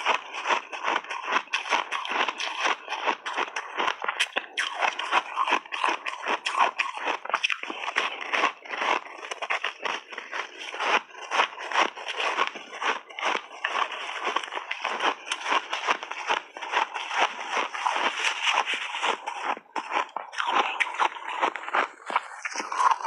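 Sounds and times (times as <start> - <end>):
crunching frozen ice balls: 0.0 - 23.0.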